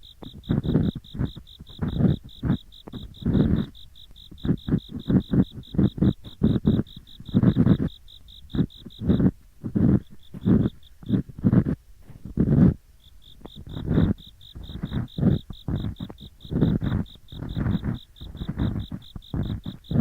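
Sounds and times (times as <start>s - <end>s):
ear picks scraping: 0.0s - 20.0s
insects chirping: 0.0s - 20.0s.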